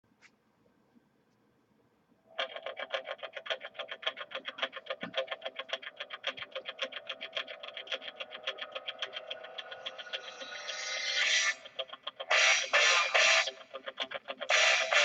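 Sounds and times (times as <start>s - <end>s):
pulsing distorted guitar-like music: 2.4s - 15.0s.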